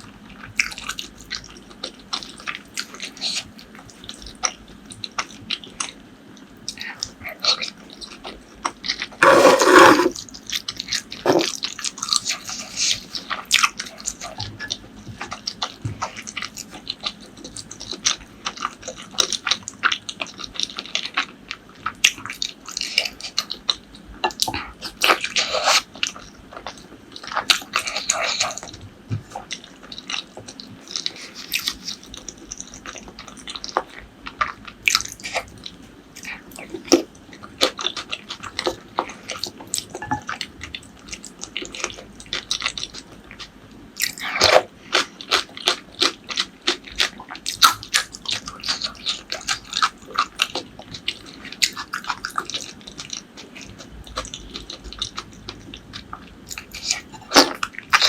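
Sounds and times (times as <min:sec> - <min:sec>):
chewing and biting: 0:07.4 - 0:58.0.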